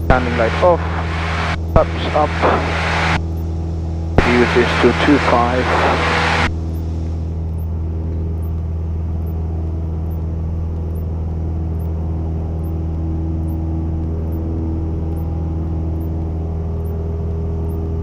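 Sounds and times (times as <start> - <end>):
airplane engine and propeller: 0.0 - 18.0.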